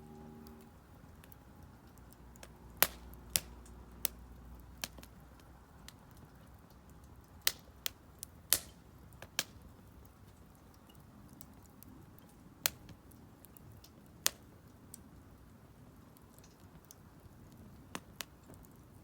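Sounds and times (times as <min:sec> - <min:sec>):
low fire hiss: 0:00.0 - 0:19.0
wood fire crackling: 0:00.0 - 0:19.0.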